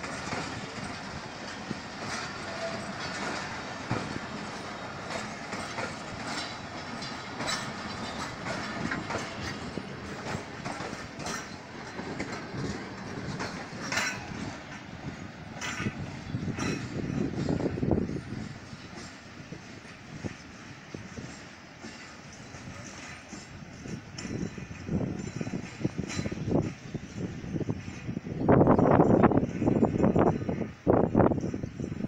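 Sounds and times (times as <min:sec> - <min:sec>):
train wheels clicking over rail joints: 0:00.0 - 0:32.0.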